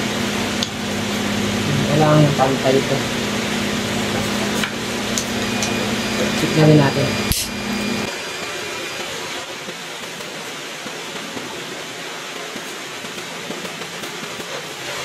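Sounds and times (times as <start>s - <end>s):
electric fan rushing air: 0.0s - 15.0s.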